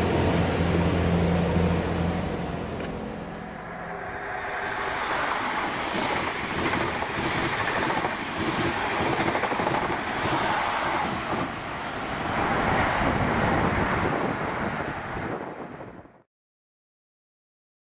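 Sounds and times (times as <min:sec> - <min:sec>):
train wheels rushing on rails: 0:00.0 - 0:15.7.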